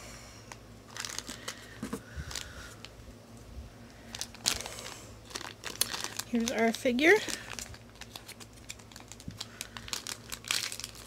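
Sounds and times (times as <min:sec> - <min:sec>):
plastic packet crinkling: 0:00.9 - 0:02.9, 0:04.1 - 0:11.0.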